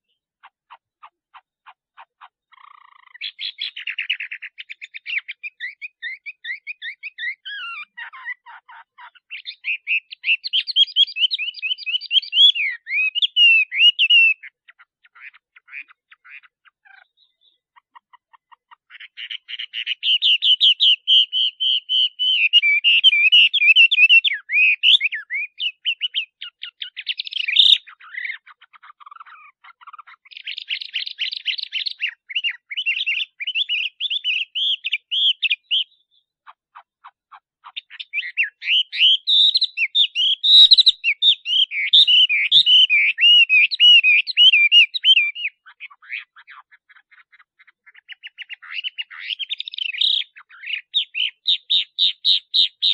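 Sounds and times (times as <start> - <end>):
bird singing rapid varied notes: 0.0 - 52.9.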